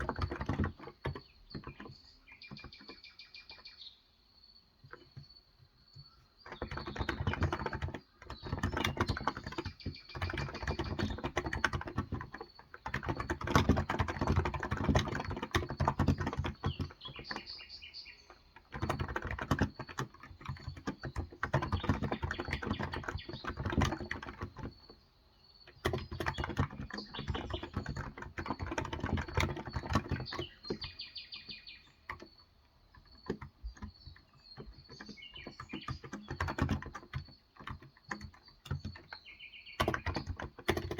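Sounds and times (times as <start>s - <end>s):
keyboard typing: 0.0s - 3.6s, 6.0s - 25.0s, 25.7s - 40.9s
birds chirping faintly: 0.0s - 40.9s.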